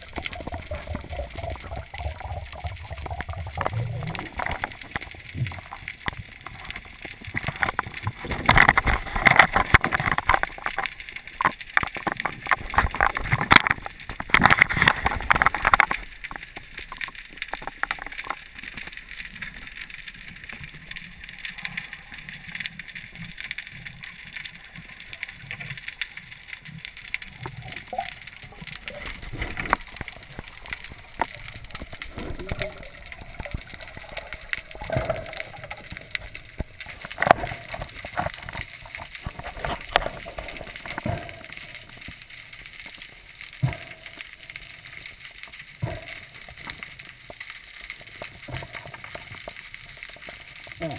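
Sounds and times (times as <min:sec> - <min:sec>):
underwater crackling clicks: 0:00.0 - 0:50.9
water rushing: 0:00.0 - 0:50.9.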